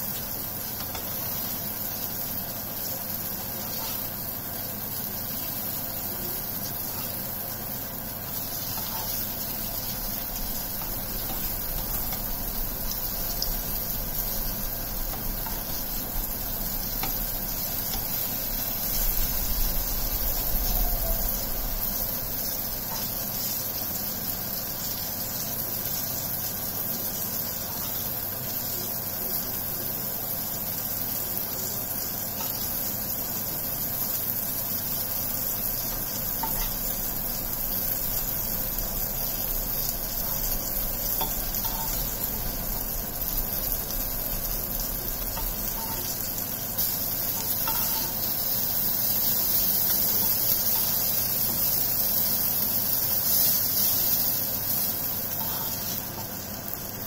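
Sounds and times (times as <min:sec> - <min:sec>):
slices sizzling in hot oil: 0:00.0 - 0:57.0.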